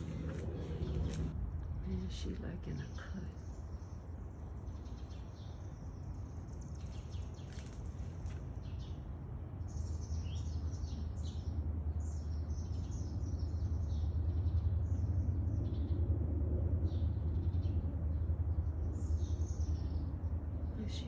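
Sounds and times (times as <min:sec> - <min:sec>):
small songbirds chirping: 0:00.0 - 0:16.1, 0:16.8 - 0:21.0
steady low rumble: 0:00.0 - 0:21.0.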